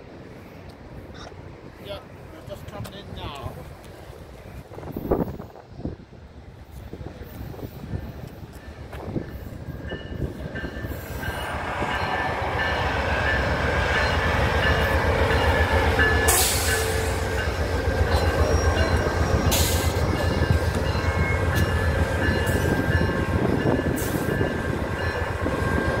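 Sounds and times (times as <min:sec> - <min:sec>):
diesel locomotive engine rumble: 0:00.0 - 0:26.0
train wheel noise: 0:02.4 - 0:26.0.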